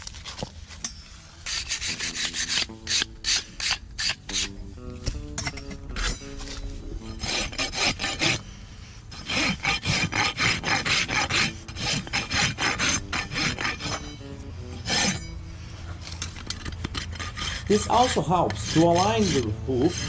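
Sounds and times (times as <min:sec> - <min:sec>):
rasp filing a hoof: 0:00.9 - 0:20.0.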